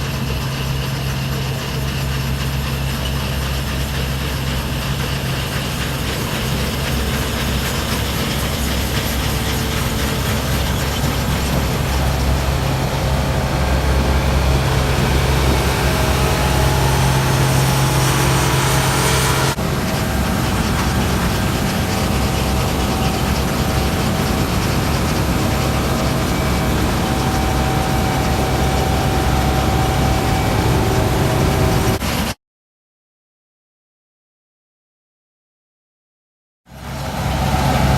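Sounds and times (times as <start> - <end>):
farm machine engine humming: 0.0 - 32.0, 36.8 - 37.9.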